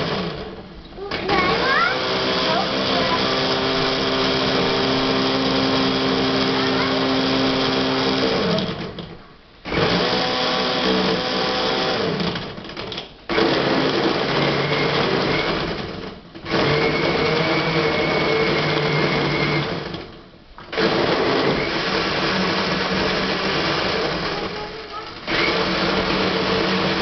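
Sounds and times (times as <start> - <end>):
blender churning ice: 0.0 - 27.0.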